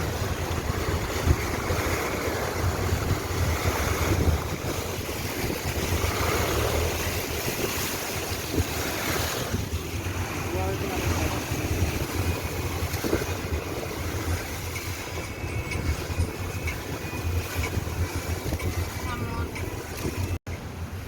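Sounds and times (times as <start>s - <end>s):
low engine hum: 0.0s - 21.0s
water rushing and splashing: 0.0s - 21.0s.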